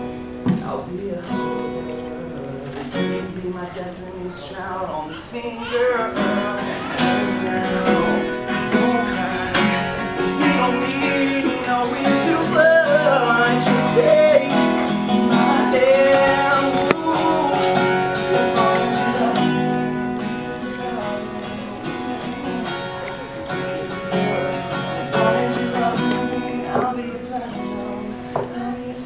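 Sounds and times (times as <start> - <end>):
acoustic guitar playing: 0.0 - 29.0
person singing: 0.0 - 29.0.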